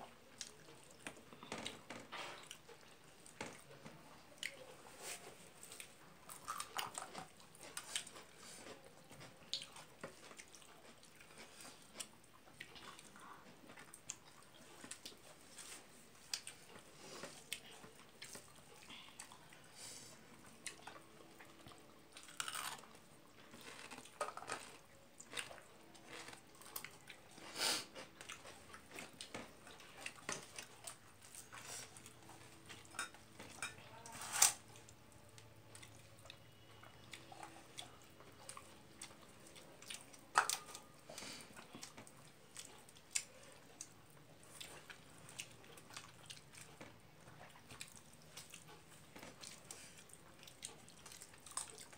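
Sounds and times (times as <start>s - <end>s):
chewing: 0.0s - 51.9s.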